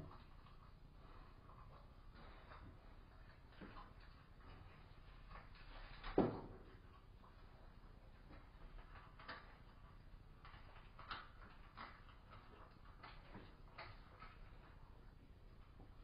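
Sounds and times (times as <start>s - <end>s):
faint irregular clicks: 0.0s - 16.0s.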